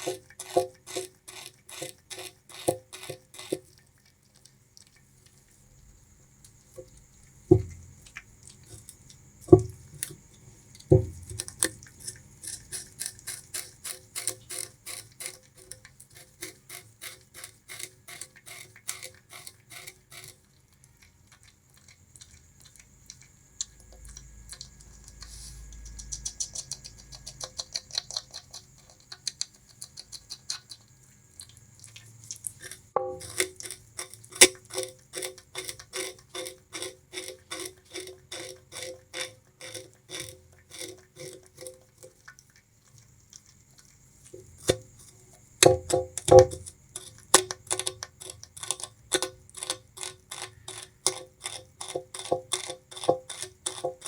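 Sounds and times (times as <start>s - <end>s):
rat gnawing sugarcane: 0.0s - 54.0s.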